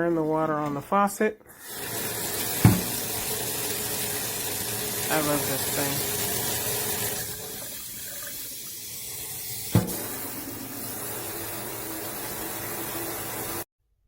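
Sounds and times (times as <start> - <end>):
water spraying from faucet sprayer: 1.5 - 13.7.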